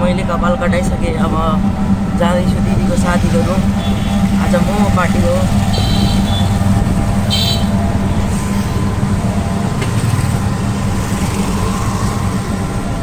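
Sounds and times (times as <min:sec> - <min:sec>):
rickshaw engine humming: 0:00.0 - 0:13.0
street traffic noise: 0:00.0 - 0:13.0.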